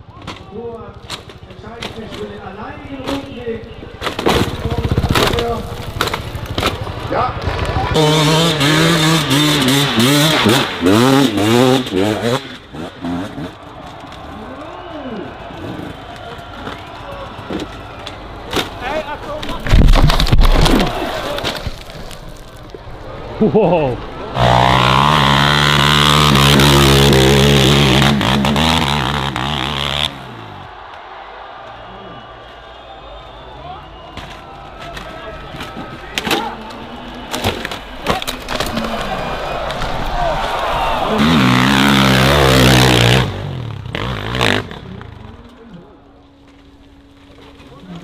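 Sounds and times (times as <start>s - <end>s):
dirt bike engine running: 1.0s - 18.9s, 24.1s - 38.0s, 39.2s - 48.0s.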